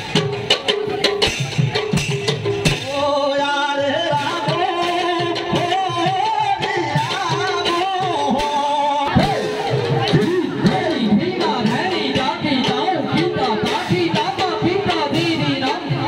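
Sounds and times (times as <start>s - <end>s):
drum beats: 0.0s - 16.0s.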